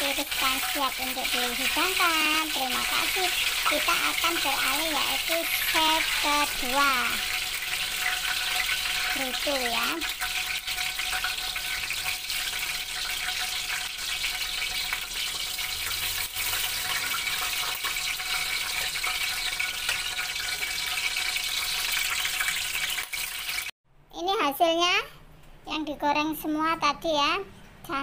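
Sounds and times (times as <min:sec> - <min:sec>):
deep-frying sizzle and crackles: 0:00.0 - 0:23.8.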